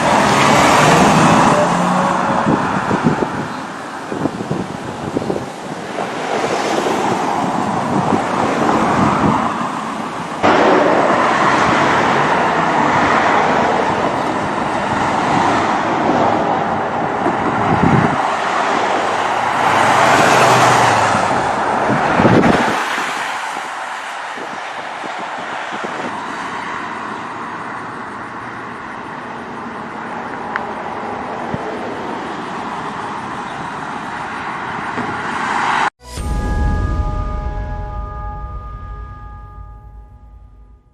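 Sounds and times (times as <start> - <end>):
cars driving at speed: 0.0 - 40.9.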